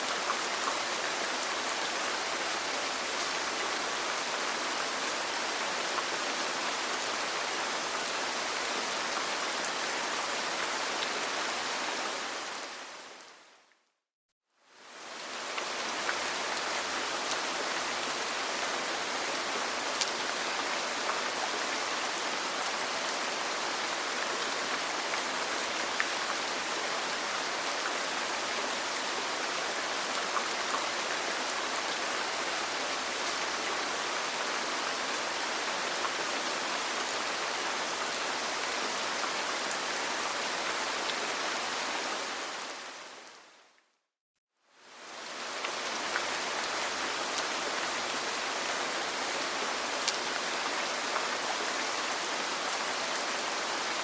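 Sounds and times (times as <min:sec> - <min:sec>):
steady rain falling: 0:00.0 - 0:13.8, 0:14.6 - 0:43.8, 0:44.7 - 0:54.0.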